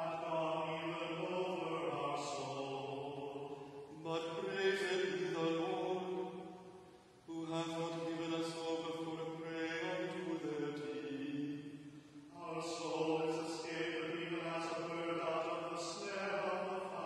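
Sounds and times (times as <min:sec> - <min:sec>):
man chanting: 0:00.0 - 0:06.6, 0:07.2 - 0:17.0.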